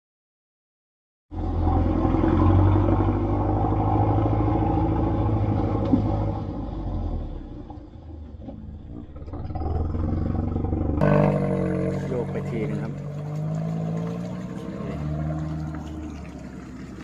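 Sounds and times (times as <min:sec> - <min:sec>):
pickup truck engine rumbling: 0:01.3 - 0:17.0.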